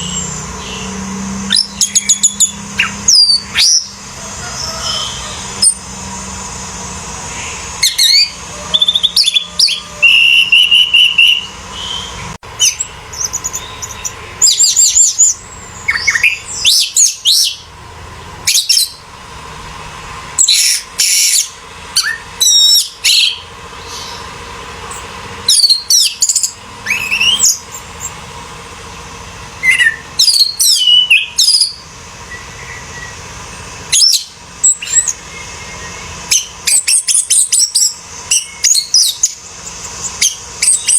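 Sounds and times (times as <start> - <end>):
thrush singing whistled trills: 0.0 - 28.4, 29.6 - 40.9.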